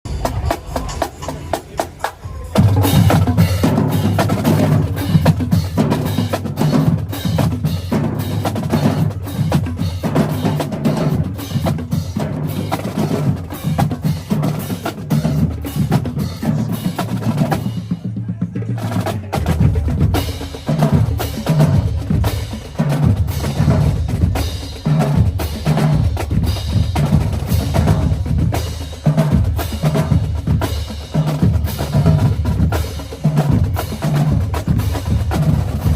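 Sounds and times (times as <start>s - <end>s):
snare drum strokes and rolls: 0.1s - 35.9s.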